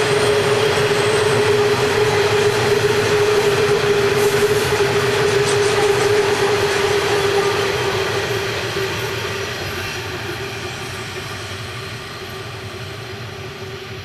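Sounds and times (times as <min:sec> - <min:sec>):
train wagons rumbling past: 0:00.0 - 0:14.0.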